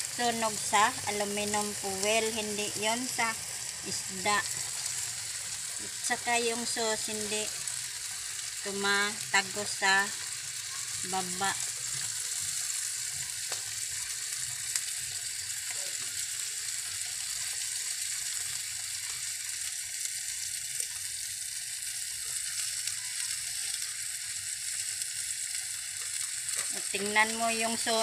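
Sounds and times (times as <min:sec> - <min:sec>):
faint crackles: 0:00.0 - 0:28.0
fish sizzling in foil: 0:00.0 - 0:28.0.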